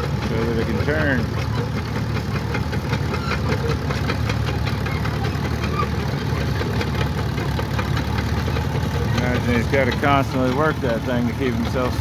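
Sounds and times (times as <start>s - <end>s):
engine rumbling with knocking beat: 0.0s - 12.0s.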